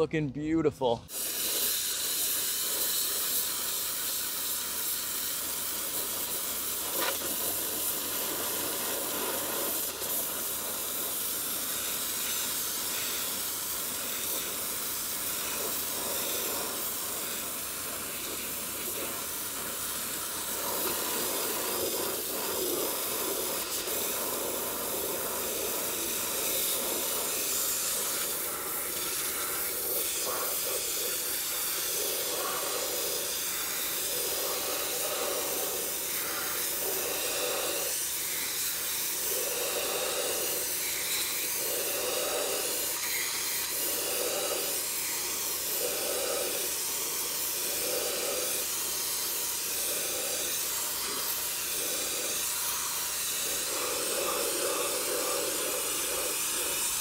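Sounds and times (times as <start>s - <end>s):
wet sandblasting hiss: 1.0s - 57.0s.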